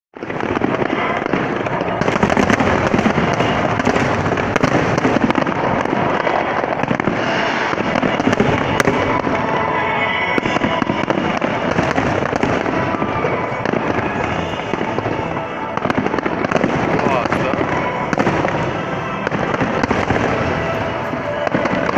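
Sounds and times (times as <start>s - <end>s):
fireworks bangs and crackles: 0.2s - 21.9s.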